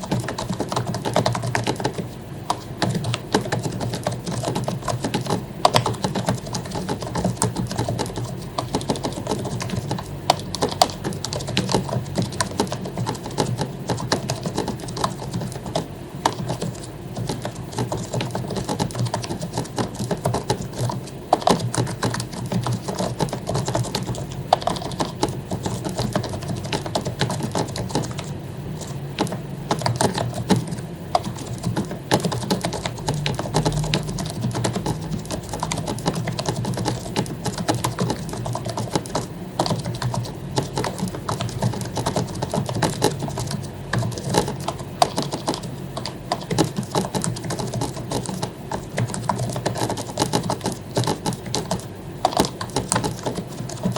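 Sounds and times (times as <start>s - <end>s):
fast typing on keyboard: 0.0s - 53.9s.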